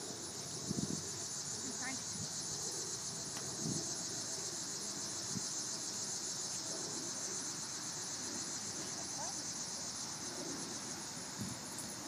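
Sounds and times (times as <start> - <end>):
shrill insect chorus: 0.0 - 12.0.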